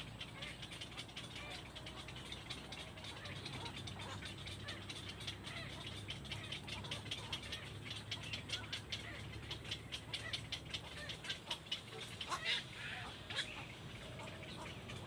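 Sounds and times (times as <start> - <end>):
steady low hum: 0.0 - 15.0
young birds chirping: 0.0 - 15.0.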